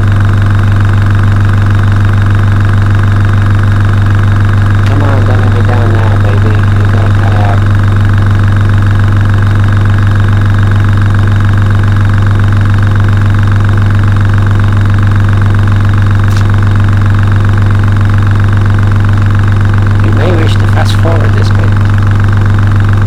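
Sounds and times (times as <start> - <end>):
compressor motor humming: 0.0 - 23.0.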